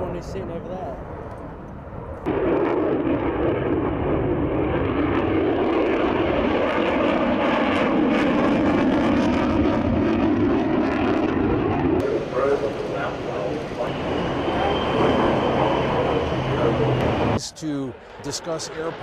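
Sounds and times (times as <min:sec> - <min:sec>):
military jet engine noise: 0:00.0 - 0:19.0.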